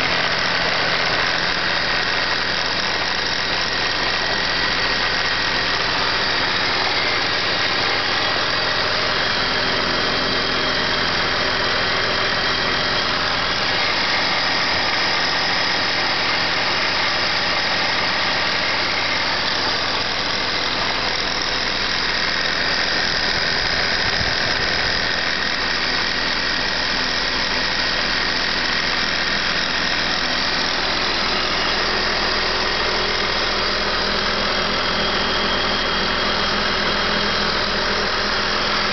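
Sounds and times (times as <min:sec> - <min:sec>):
car engine idling: 0:00.0 - 0:38.9
steady high whine: 0:00.0 - 0:38.9.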